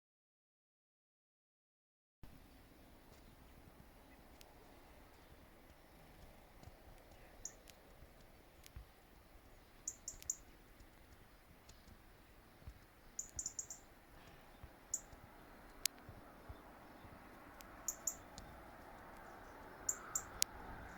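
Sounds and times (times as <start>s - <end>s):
small songbirds chirping: 2.2s - 20.9s.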